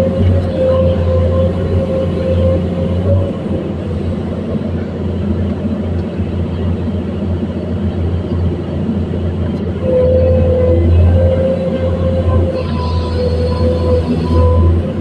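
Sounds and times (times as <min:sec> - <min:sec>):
excavator diesel engine rumbling: 0:00.0 - 0:15.0
steady high whine: 0:00.0 - 0:15.0.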